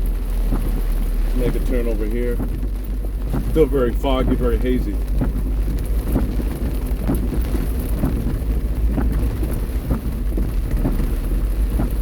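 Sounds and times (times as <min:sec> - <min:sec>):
low rumble of car and road: 0:00.0 - 0:12.0
torrential rain on a car: 0:00.0 - 0:12.0
windshield wipers sweeping: 0:00.0 - 0:12.0.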